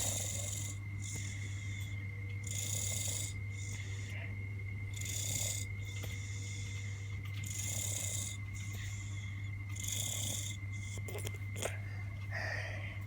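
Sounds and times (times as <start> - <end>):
congested snoring: 0.0 - 4.3, 4.9 - 12.6.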